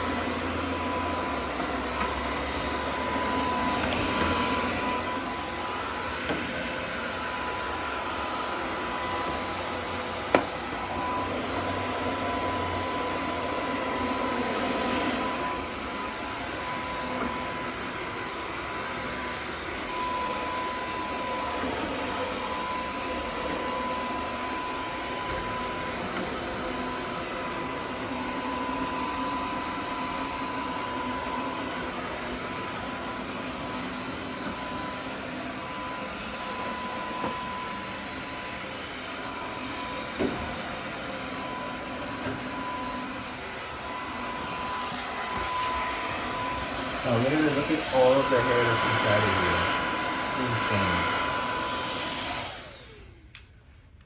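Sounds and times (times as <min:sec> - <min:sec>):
stick vacuum motor whining: 0:00.0 - 0:53.5.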